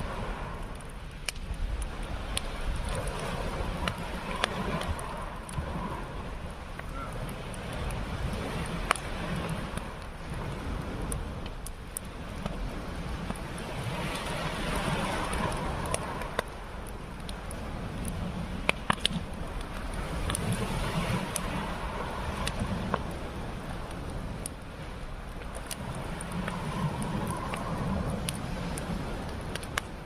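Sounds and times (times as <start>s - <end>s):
campfire crackling and popping: 0.0s - 30.0s
sea surf: 0.0s - 30.0s
wind on microphone: 0.0s - 30.0s.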